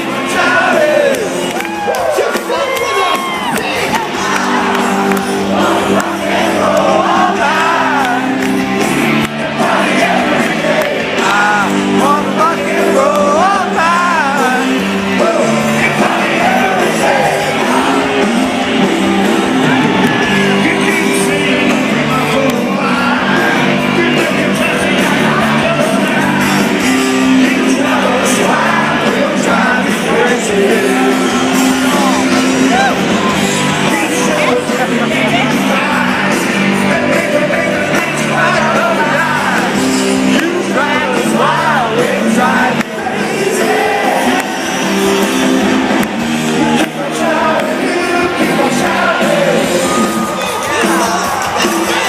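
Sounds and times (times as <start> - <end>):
crowd shouting and singing along: 0.0 - 52.0
loud live music: 0.0 - 52.0.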